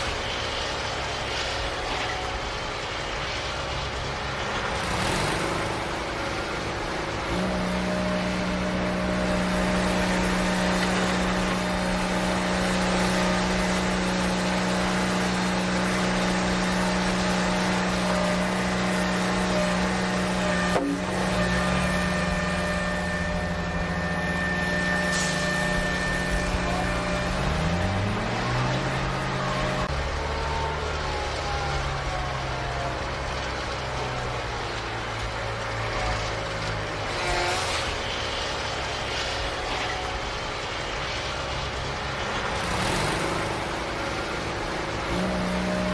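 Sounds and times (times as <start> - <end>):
engine hum: 0.0 - 45.9.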